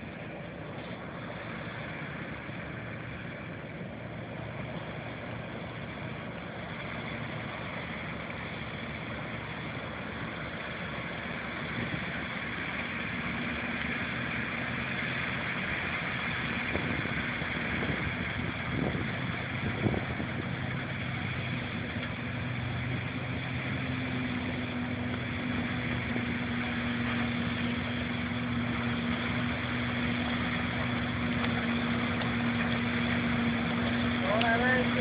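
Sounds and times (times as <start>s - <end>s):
combine harvester engine drone: 0.0s - 35.0s.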